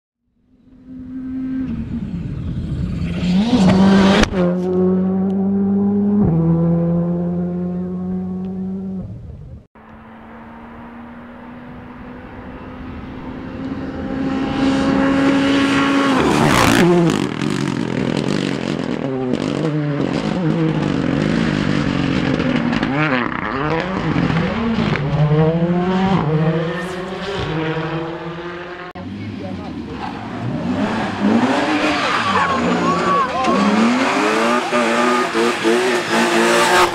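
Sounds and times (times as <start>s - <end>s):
rally car engine accelerating: 0.7s - 36.9s.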